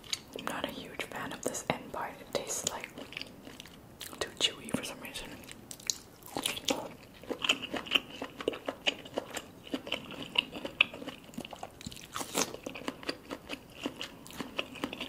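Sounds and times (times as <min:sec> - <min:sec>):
biting and chewing food: 0:00.0 - 0:00.4, 0:02.5 - 0:04.4, 0:05.2 - 0:15.0.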